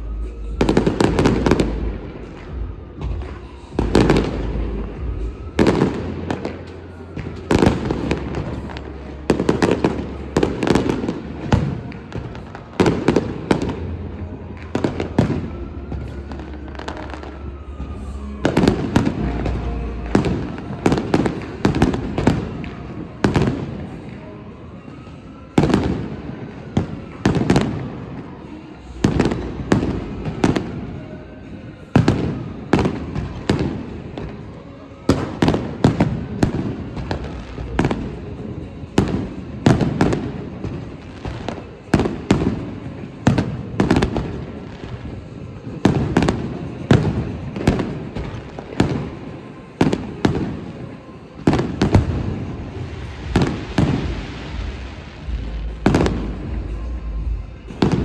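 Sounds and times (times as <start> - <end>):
fireworks banging with echo: 0.0 - 58.0.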